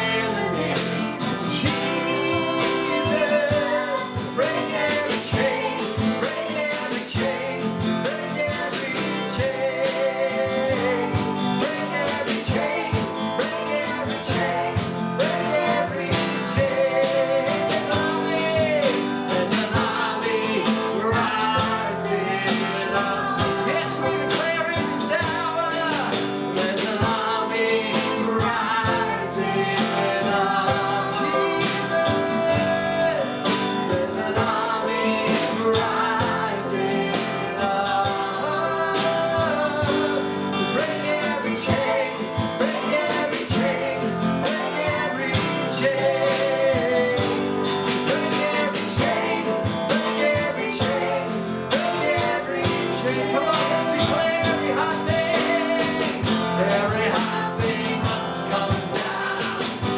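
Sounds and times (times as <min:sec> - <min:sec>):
person singing: 0:00.0 - 0:59.9
strummed guitar: 0:00.0 - 0:59.9.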